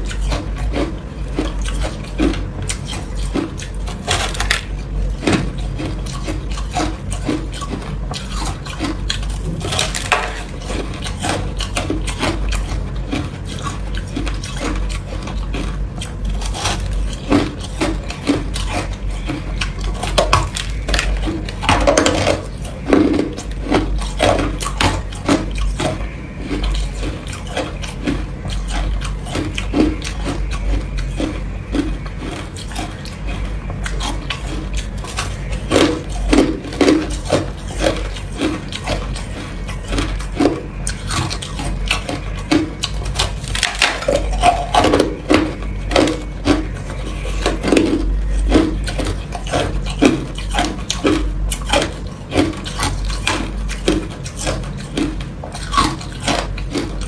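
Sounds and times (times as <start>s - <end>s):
ice crunched and chewed: 0.0s - 57.0s.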